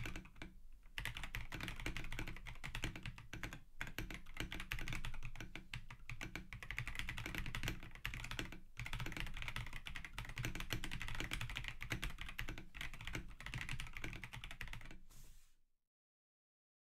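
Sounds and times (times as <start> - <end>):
fast typing on mechanical keyboard: 0.0 - 15.0.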